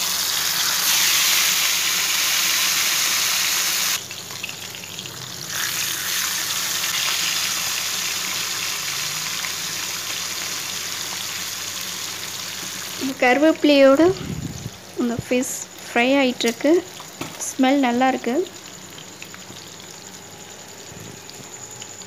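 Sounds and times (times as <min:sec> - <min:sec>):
fish sizzling in hot oil: 0:00.0 - 0:13.9, 0:14.6 - 0:22.0.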